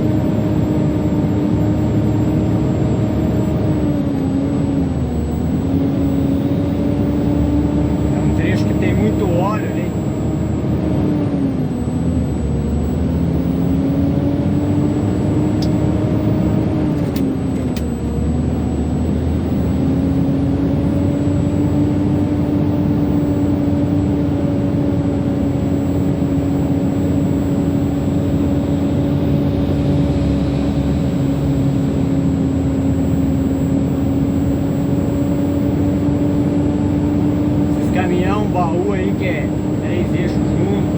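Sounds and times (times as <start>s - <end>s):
truck diesel engine pulling uphill: 0.0s - 40.9s.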